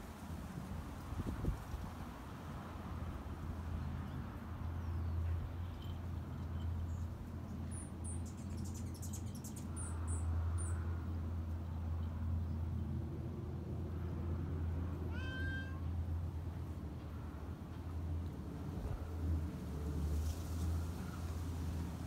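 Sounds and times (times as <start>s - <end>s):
low outdoor hum: 0.0s - 22.0s.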